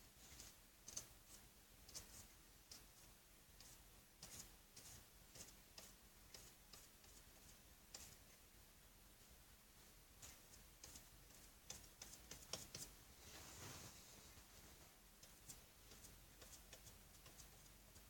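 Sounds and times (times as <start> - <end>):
paintbrush strokes on canvas: 0.0 - 8.4, 9.3 - 18.0.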